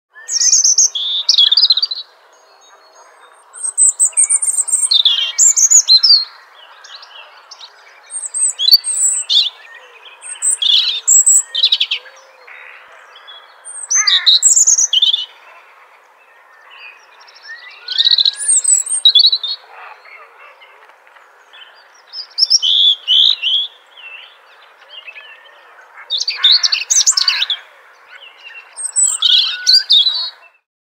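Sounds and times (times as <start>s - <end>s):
robin singing: 0.1s - 30.7s.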